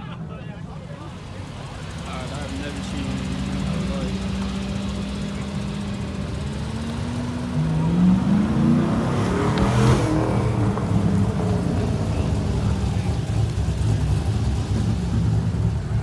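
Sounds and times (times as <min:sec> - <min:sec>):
car engine revving: 0:00.8 - 0:16.0.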